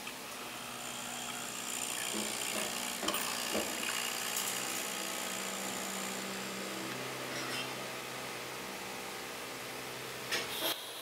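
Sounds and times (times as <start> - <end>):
coffee machine pump buzzing: 0.0 - 11.0.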